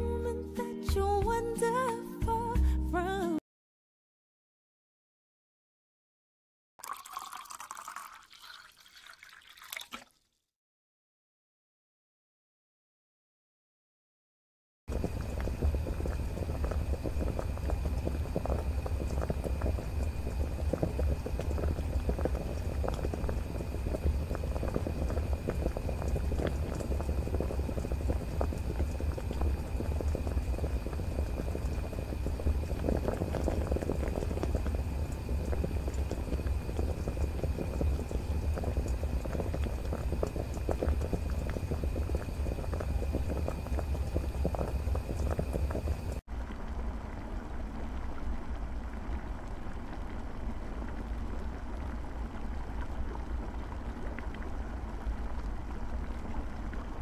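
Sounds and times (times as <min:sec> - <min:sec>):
water boiling in a pot: 0:06.8 - 0:10.4, 0:14.9 - 0:57.0.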